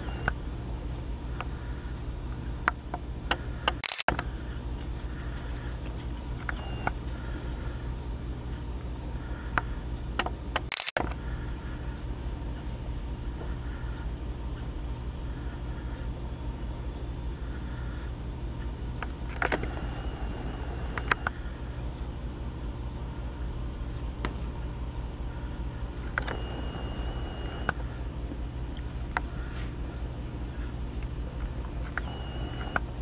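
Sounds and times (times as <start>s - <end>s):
high whine: 0.0s - 10.0s, 10.7s - 33.0s
low outdoor rumble: 0.0s - 33.0s.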